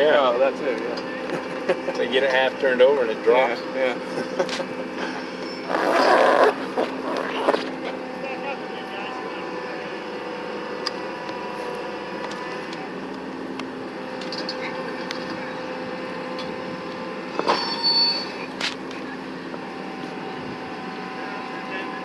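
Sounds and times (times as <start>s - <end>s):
machinery engine droning: 0.0s - 22.0s.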